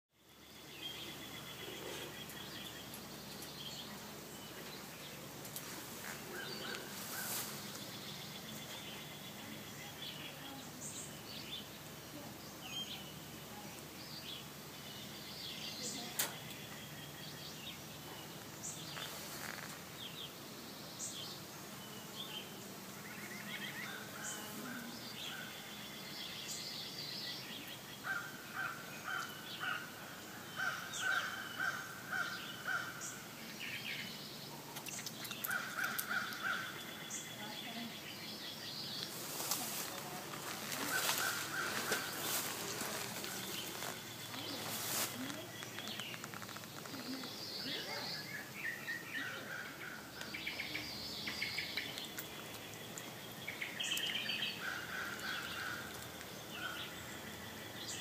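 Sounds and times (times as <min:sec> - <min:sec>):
birds chirping and calling: 0:00.3 - 0:58.0.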